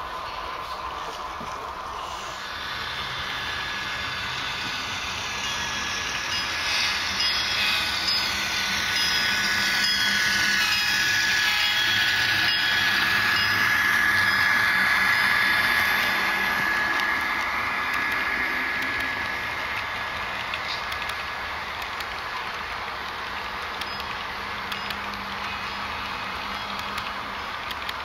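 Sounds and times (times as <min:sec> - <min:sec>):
model train wheels whining on track: 0:00.0 - 0:28.0.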